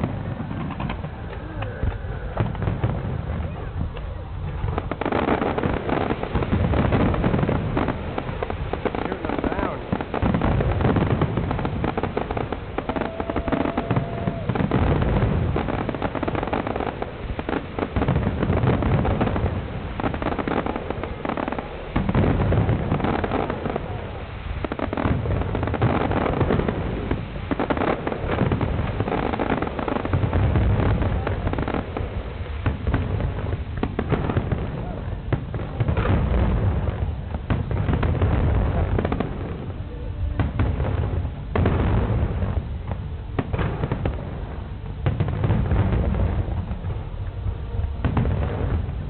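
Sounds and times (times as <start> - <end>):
fireworks booming and crackling: 0.0 - 49.0.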